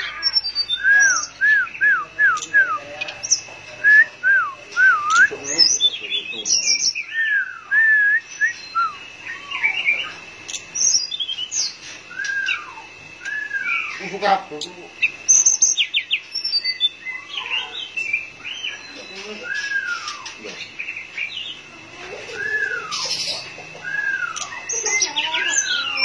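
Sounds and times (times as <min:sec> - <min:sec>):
flycatcher singing whistled notes: 0:00.0 - 0:21.7, 0:22.3 - 0:26.0.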